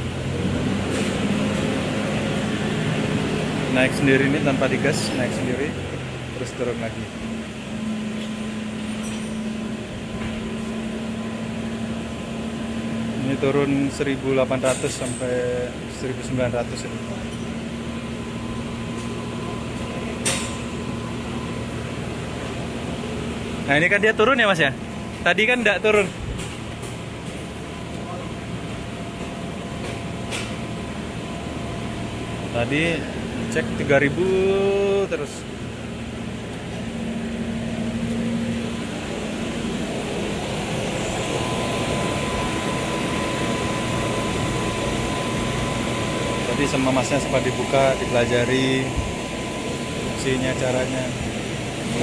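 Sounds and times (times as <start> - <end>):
thin steady whine: 0.9 - 52.0.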